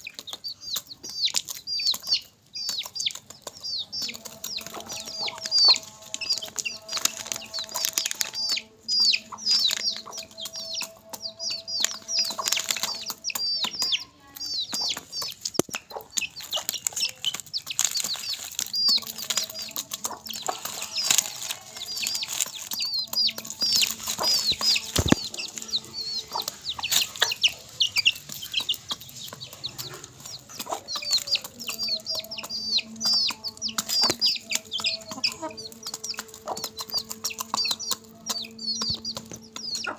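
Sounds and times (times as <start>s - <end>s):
beaks pecking crisp food: 0.0s - 39.9s
chickens clucking: 0.0s - 39.9s
chicks peeping: 0.0s - 39.9s.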